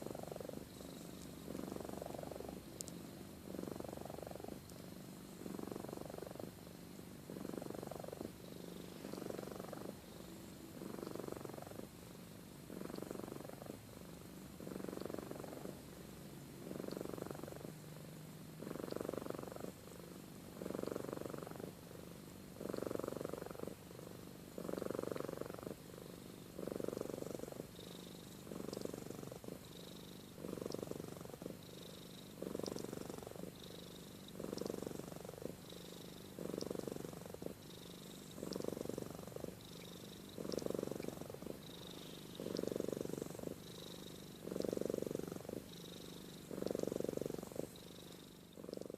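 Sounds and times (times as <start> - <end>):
cat purring: 0.0 - 48.9.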